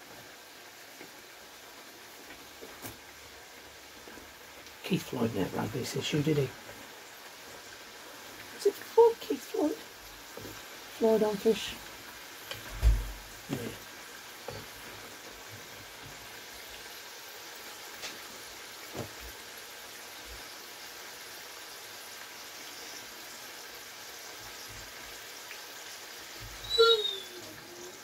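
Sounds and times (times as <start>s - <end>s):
plantain slices sizzling in oil: 0.0s - 28.0s.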